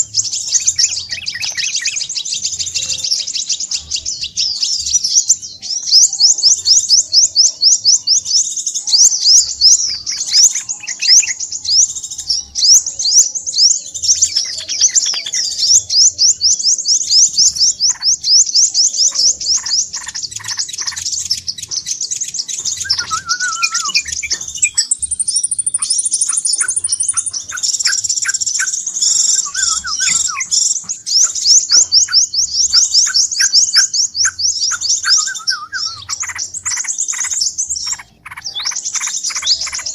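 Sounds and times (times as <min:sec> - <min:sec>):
bird chirping rapidly: 0:00.0 - 0:39.9
high bird trill: 0:00.0 - 0:39.9.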